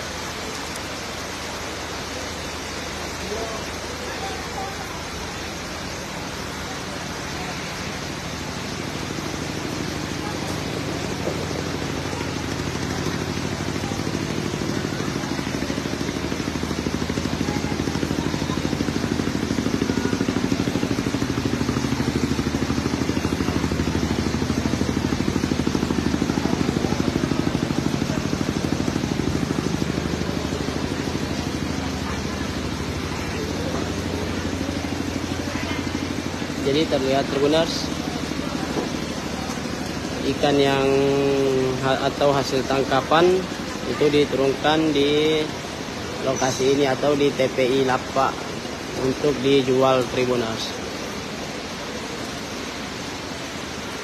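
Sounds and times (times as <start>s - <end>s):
engine running: 0.0s - 54.0s
heavy rain hissing: 0.0s - 54.0s.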